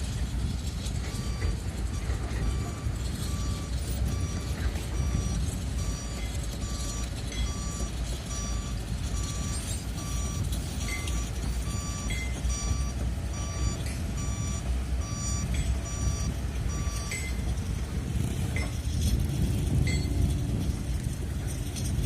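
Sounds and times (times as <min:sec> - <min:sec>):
diesel engine rumbling: 0:00.0 - 0:22.0
backup alarm beeping: 0:00.9 - 0:19.0.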